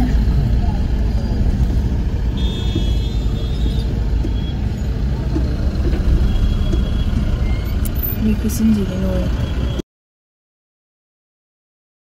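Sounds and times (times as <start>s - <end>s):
car engine and road noise: 0.0s - 9.8s.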